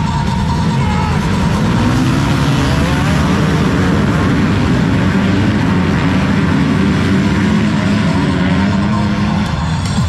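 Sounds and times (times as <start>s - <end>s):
motocross bike engines: 0.0s - 10.0s.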